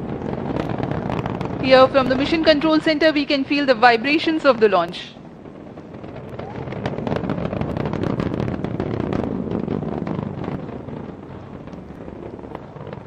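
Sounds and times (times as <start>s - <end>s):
rocket boosters roaring: 0.0s - 13.0s.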